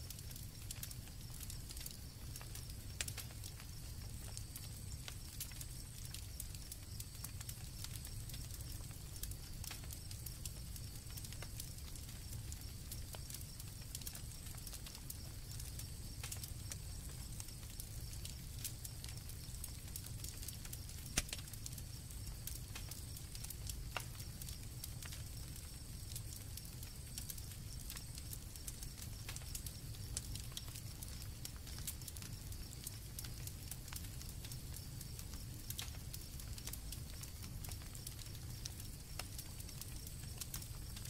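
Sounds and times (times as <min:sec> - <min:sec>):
campfire crackling and popping: 0:00.0 - 0:41.0
crickets trilling: 0:00.0 - 0:41.0.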